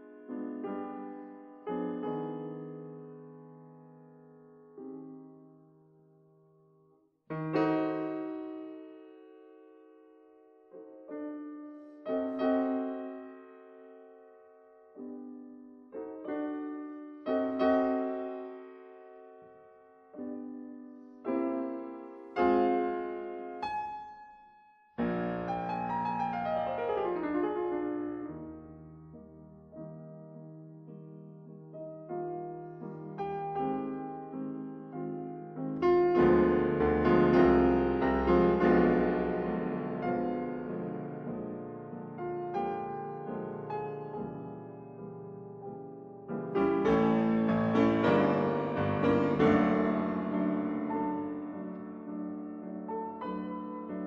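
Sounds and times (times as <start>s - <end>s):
slow piano chords: 0.0s - 54.0s.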